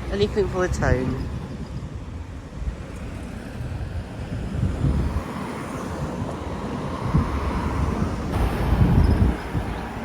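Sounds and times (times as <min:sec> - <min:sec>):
road vehicle passing: 0:00.0 - 0:10.0
wind buffeting microphone: 0:00.0 - 0:10.0.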